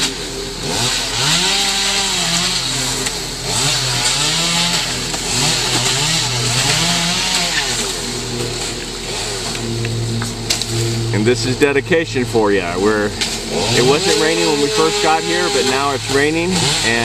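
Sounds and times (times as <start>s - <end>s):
chainsaw revving: 0.0s - 17.0s.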